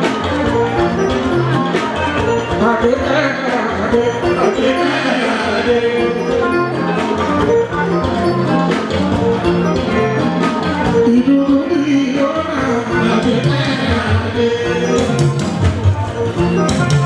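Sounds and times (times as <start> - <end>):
band music with drums: 0.0 - 17.0.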